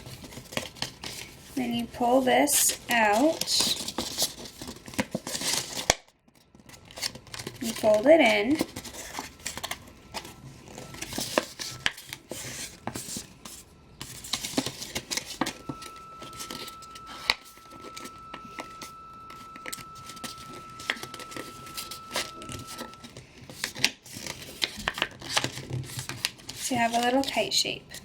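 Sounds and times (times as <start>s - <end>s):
paper crinkling and creasing: 0.0s - 28.0s.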